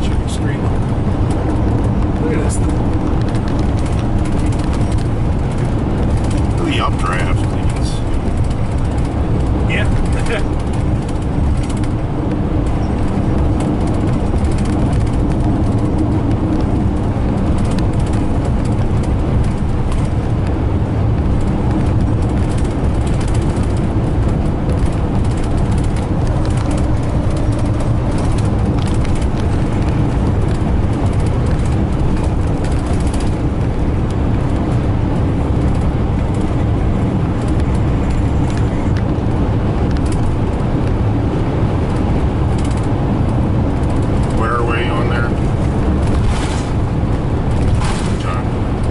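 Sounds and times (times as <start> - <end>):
vehicle road and engine noise: 0.0 - 48.9.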